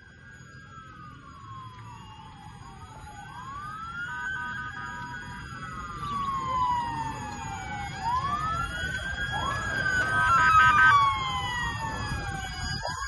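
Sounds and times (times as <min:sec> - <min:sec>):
emergency sirens wailing: 0:00.0 - 0:13.0
stepped siren tone: 0:00.0 - 0:13.0.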